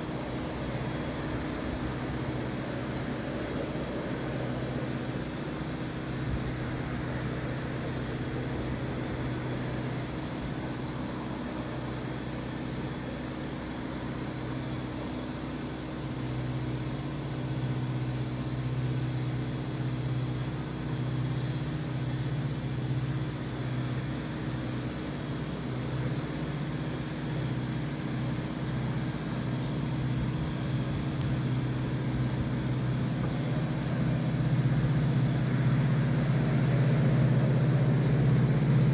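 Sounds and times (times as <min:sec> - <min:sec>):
locomotive engine hum: 0:00.0 - 0:38.9.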